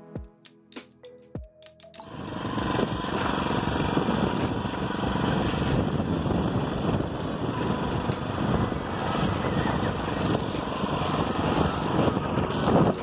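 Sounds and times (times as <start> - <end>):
small engine running: 2.0 - 13.0
wind noise on microphone: 2.1 - 13.0.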